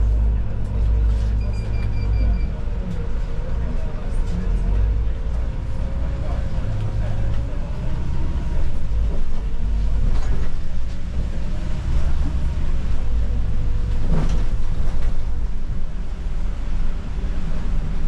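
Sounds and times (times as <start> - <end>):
bus drivetrain and road rumble: 0.0 - 18.0.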